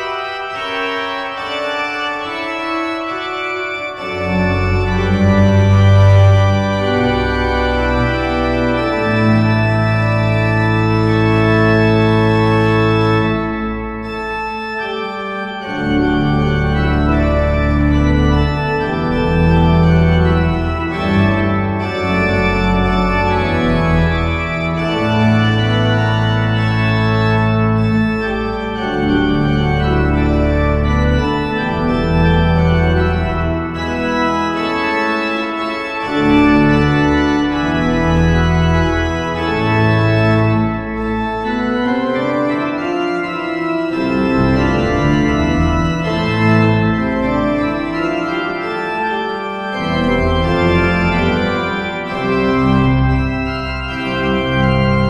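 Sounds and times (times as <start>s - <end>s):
pipe organ playing held chords: 0.0s - 55.0s.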